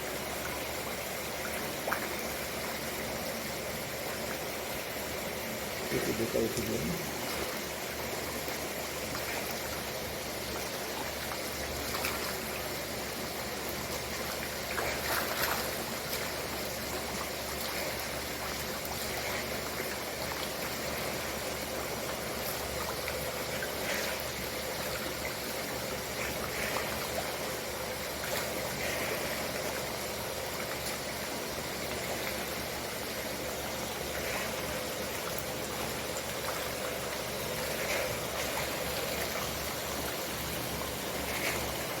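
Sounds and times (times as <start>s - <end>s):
water rushing in a tank: 0.0s - 42.0s
water splashes: 0.0s - 42.0s.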